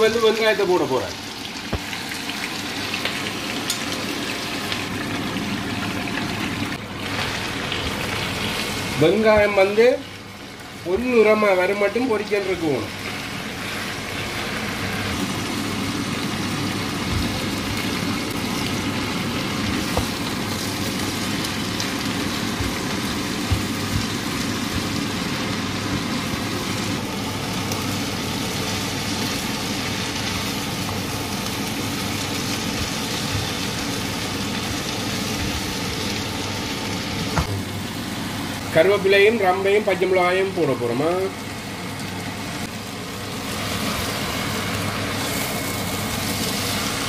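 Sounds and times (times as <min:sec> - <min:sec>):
meat and onions sizzling: 0:00.0 - 0:47.0.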